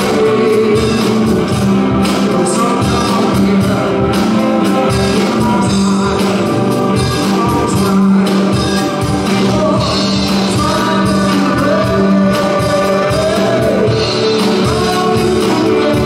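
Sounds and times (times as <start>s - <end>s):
live band playing: 0.0s - 16.0s
person singing: 0.0s - 16.0s
steady drum beat: 0.0s - 16.0s.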